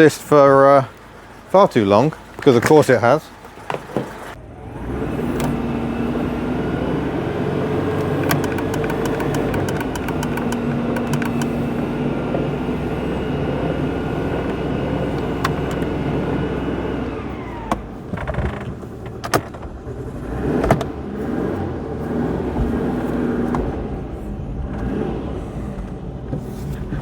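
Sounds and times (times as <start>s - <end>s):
car engine running: 4.1s - 27.0s.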